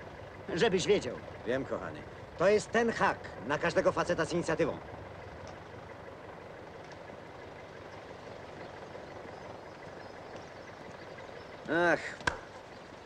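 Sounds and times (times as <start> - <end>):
distant heavy vehicle engines humming: 0.0 - 13.0.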